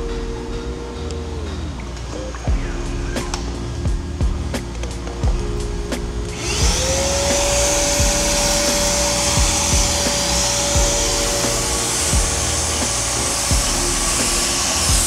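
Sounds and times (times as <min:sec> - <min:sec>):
machining spindle whining: 0:00.0 - 0:15.0
music with deep bass beat: 0:00.0 - 0:15.0.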